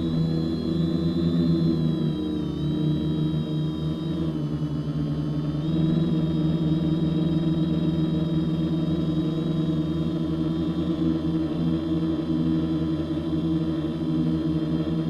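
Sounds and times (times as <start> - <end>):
quadcopter motors humming and whining: 0.0 - 15.0.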